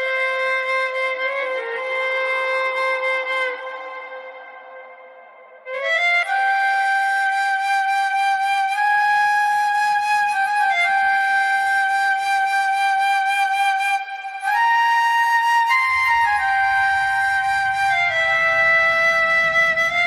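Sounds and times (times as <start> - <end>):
flute melody: 0.0 - 20.0.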